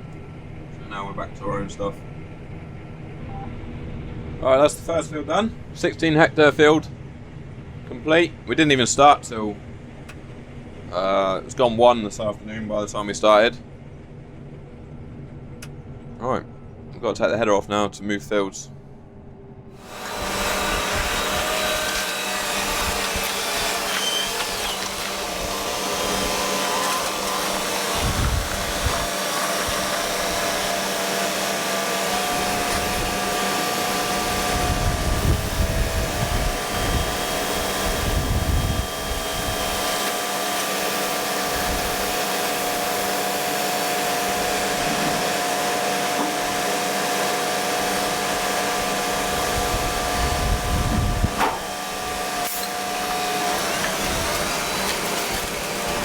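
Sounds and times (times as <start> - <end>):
combine harvester whine: 0.0 - 8.1, 18.7 - 56.0.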